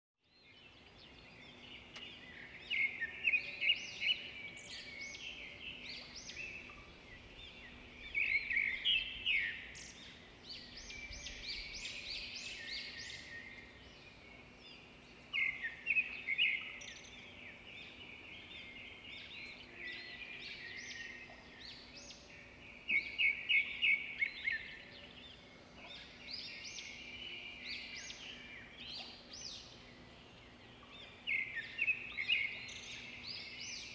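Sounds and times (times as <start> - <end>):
birds chirping and trilling: 0.3 - 33.9.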